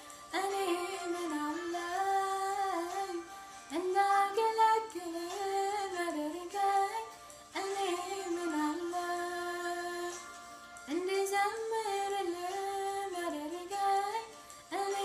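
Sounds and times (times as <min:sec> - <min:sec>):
woman singing a hymn: 0:00.0 - 0:10.3, 0:10.9 - 0:15.0.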